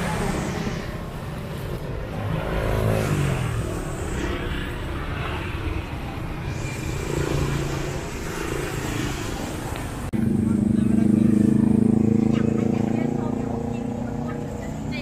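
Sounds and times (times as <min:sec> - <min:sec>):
small motorbike engine: 0:00.0 - 0:15.0
traffic hum: 0:00.0 - 0:15.0.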